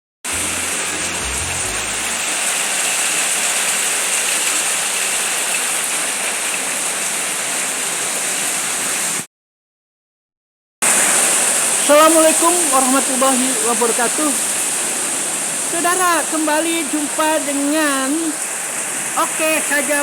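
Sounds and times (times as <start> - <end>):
heavy rain in strong wind: 0.3 - 9.2, 10.8 - 20.0.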